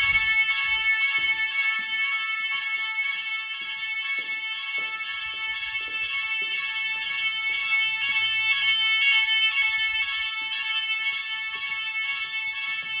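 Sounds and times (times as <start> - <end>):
fire alarm continuous tone: 0.0 - 13.0.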